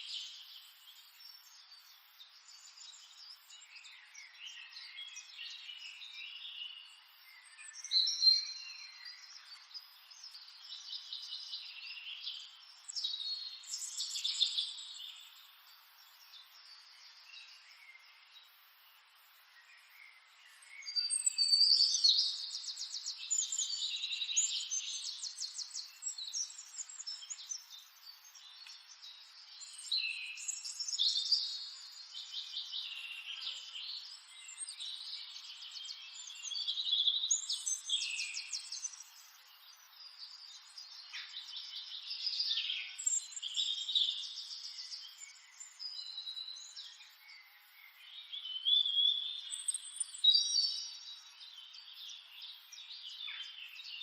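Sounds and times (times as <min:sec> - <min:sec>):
birds chirping and singing: 0:01.4 - 0:54.0.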